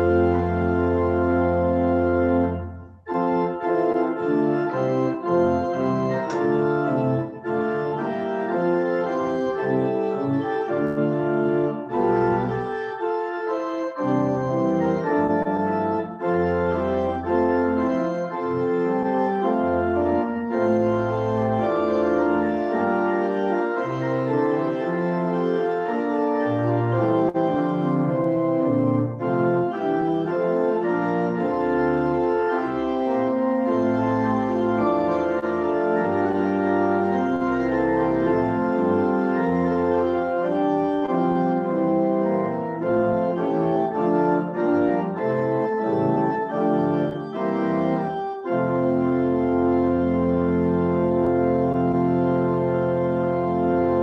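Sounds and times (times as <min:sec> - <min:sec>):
church organ playing chords: 0:00.0 - 0:54.0.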